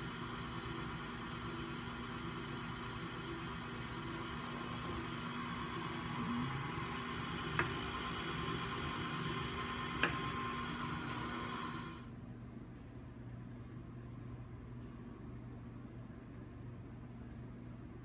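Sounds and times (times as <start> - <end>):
room tone hum and hiss: 0.0 - 18.0.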